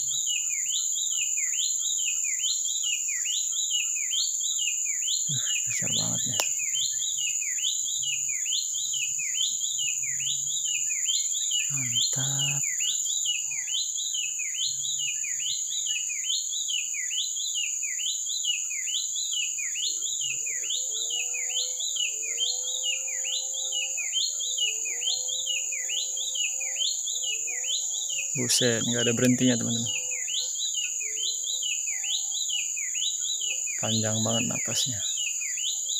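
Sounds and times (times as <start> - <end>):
high insect drone: 0.0 - 35.9
lower bird calls: 3.2 - 35.9.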